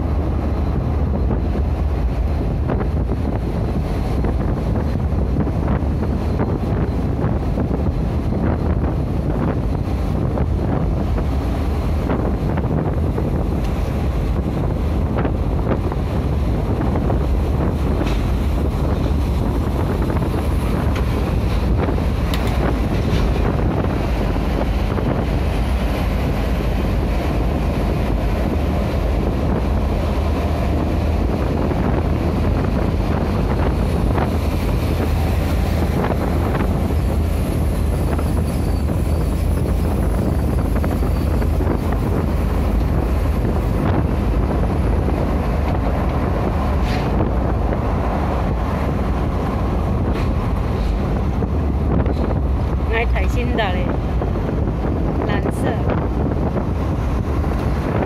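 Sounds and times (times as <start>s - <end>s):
road and engine rumble in cabin: 0.0s - 58.0s.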